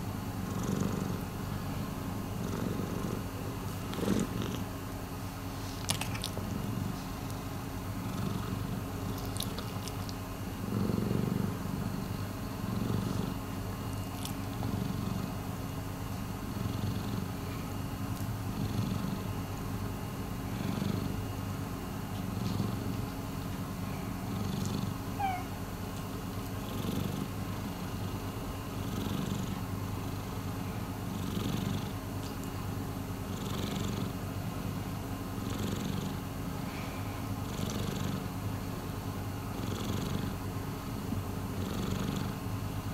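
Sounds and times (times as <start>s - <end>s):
cat purring: 0.0s - 4.8s, 5.7s - 15.6s, 16.2s - 21.3s, 22.1s - 25.6s, 26.5s - 30.5s, 31.1s - 32.0s, 33.3s - 36.2s, 36.8s - 38.3s, 39.5s - 42.5s.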